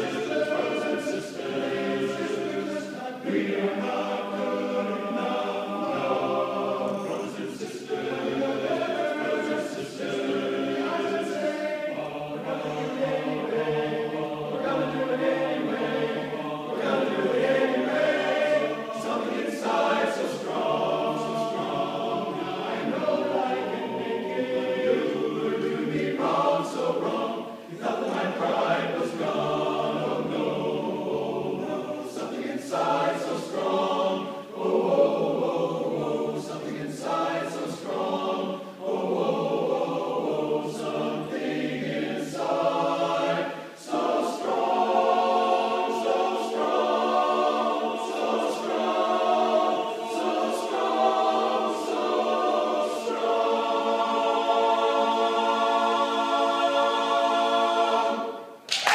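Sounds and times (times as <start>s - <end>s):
men's chorus singing a cappella: 0.0s - 58.6s.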